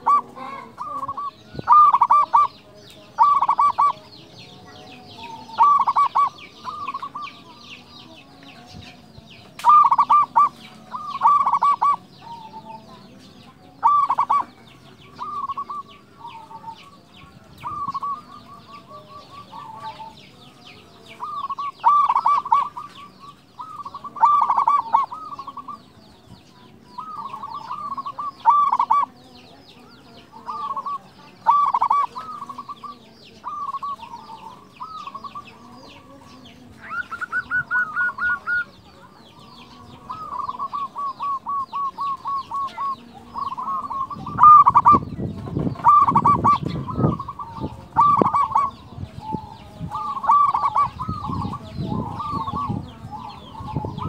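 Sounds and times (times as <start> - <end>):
dove cooing: 0.0 - 7.9, 9.6 - 13.0, 13.8 - 20.2, 21.2 - 25.9, 27.0 - 29.2, 29.9 - 54.0.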